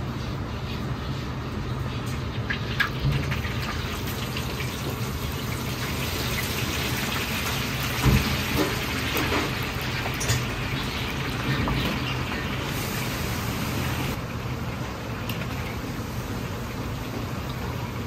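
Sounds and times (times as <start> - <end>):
oil sizzling and bubbling: 0.0 - 18.0.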